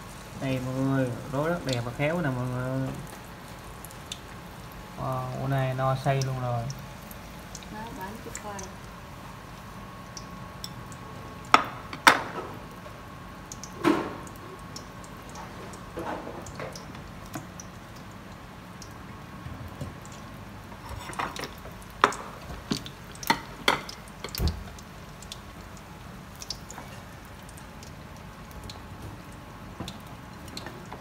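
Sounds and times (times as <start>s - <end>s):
oil bubbling and sizzling: 0.0s - 31.0s.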